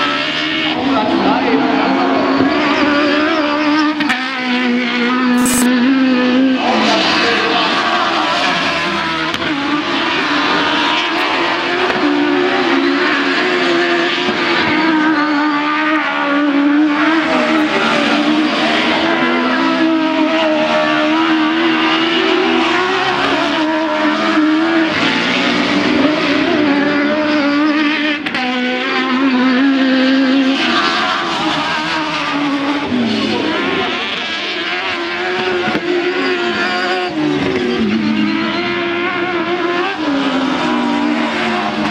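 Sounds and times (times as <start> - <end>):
racing buggy engines revving: 0.0 - 41.9.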